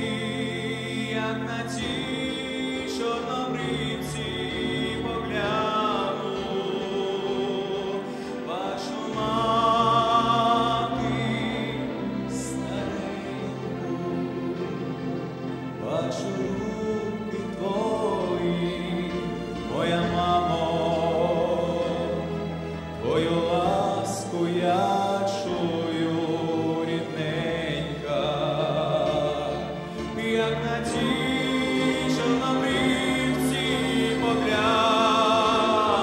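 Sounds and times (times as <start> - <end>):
instrumental accompaniment: 0.0 - 36.0.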